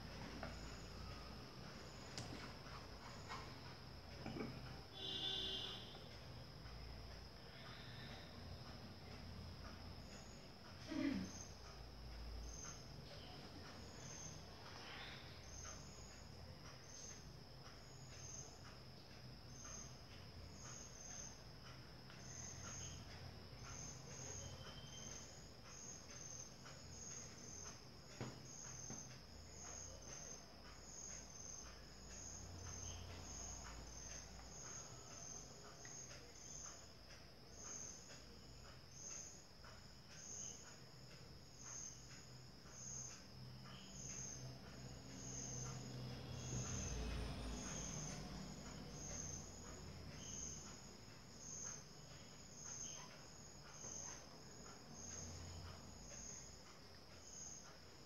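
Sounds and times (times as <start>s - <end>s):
crickets chirping: 0.0s - 58.0s
steady high hum: 0.0s - 58.0s.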